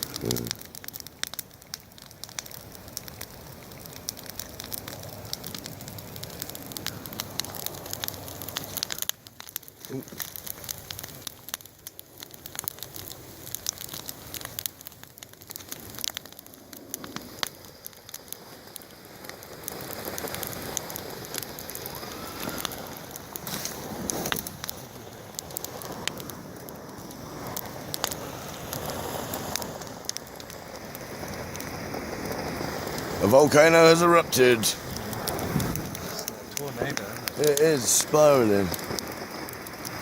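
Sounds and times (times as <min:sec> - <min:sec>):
bonfire crackling and popping: 0:00.0 - 0:40.0
steady hiss: 0:00.0 - 0:40.0.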